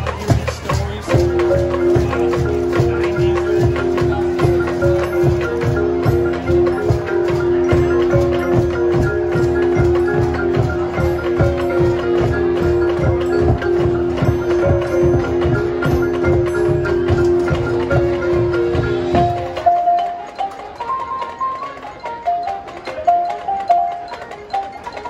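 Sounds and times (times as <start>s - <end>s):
mallet percussion: 0.0s - 25.0s
steady percussion beat: 0.0s - 25.0s.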